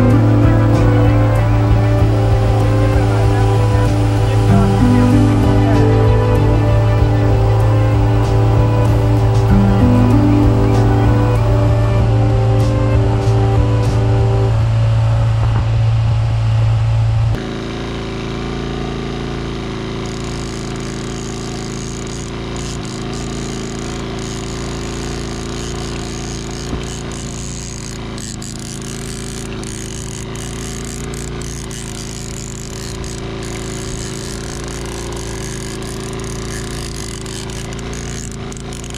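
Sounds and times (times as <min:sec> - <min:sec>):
loud steady sound cutting off: 0:00.0 - 0:38.9
outboard motor putter: 0:00.0 - 0:38.9.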